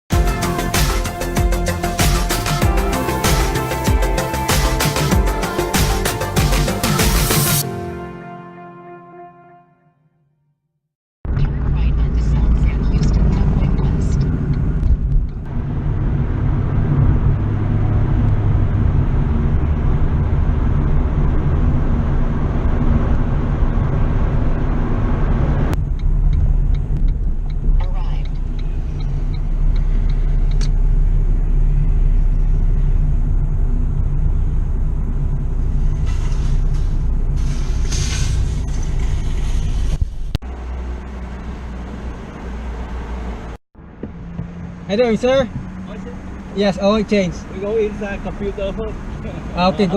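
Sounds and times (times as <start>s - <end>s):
car engine and road noise: 0.1s - 9.3s, 11.2s - 49.9s.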